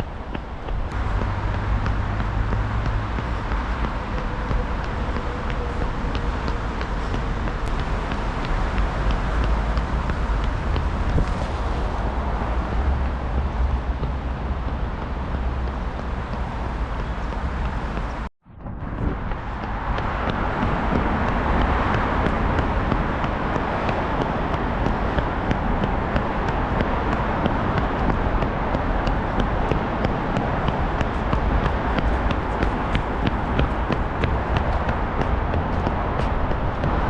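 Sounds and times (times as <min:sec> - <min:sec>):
traffic hum: 0:00.0 - 0:37.0
wind on microphone: 0:00.0 - 0:37.0.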